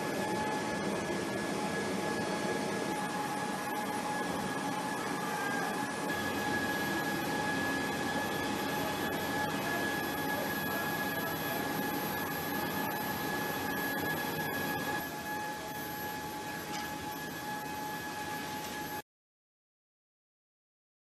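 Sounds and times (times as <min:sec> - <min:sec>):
jet turbine whine: 0:00.0 - 0:19.0.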